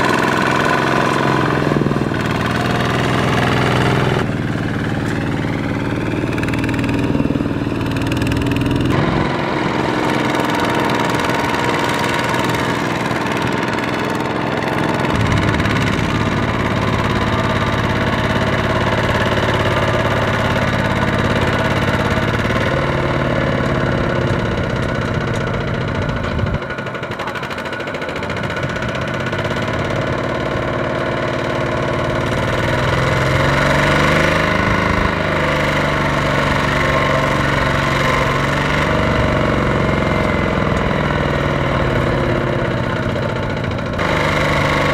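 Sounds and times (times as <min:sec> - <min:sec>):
diesel tractor engine labouring: 0:00.0 - 0:44.9.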